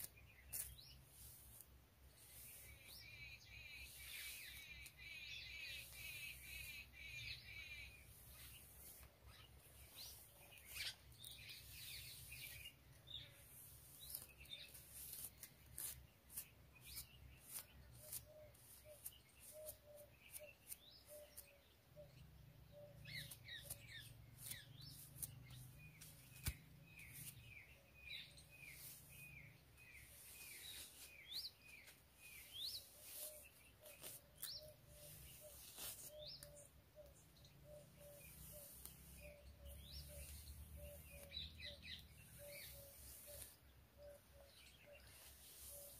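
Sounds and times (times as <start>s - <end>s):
comb scratching through hair: 0.0s - 21.5s, 23.0s - 36.6s, 37.9s - 45.9s
small birds chirping: 0.0s - 45.9s.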